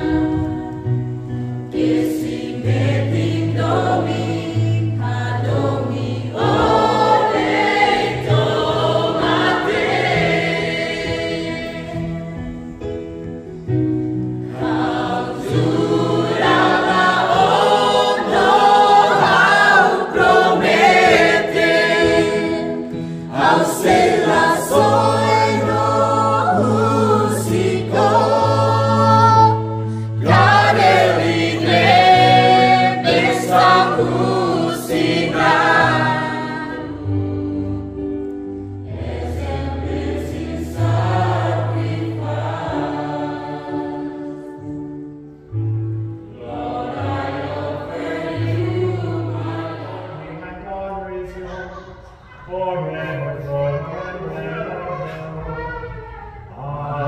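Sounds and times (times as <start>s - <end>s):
choir singing a hymn: 0.0s - 51.6s.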